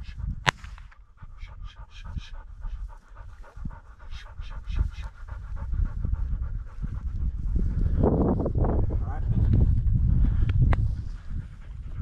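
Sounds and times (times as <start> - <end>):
dog panting rapidly: 0.0 - 12.0
low rumble: 0.0 - 12.0.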